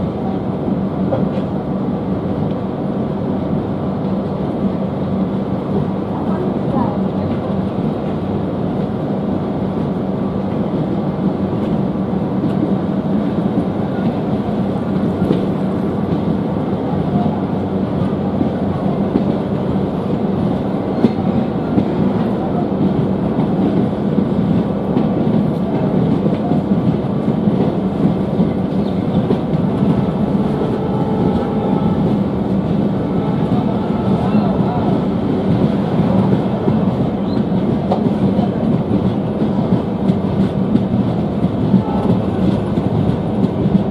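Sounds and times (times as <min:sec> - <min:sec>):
train running gear rumbling: 0:00.0 - 0:43.9
train wheels clacking on rails: 0:05.6 - 0:43.9.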